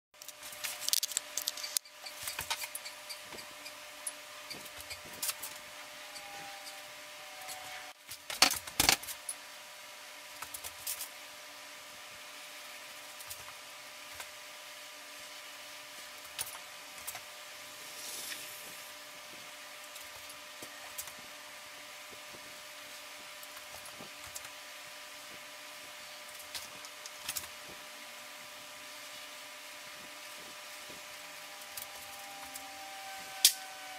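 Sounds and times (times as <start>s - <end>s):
steady electrical hum: 0.2s - 33.9s.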